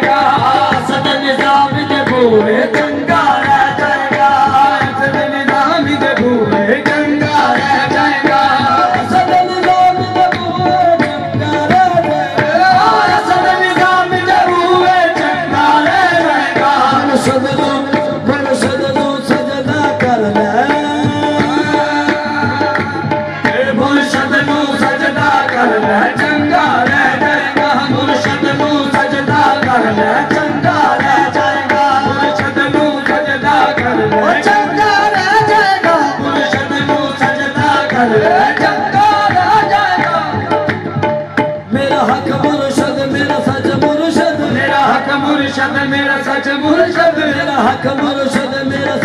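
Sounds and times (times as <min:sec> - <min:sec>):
tabla drumming: 0:00.0 - 0:49.0.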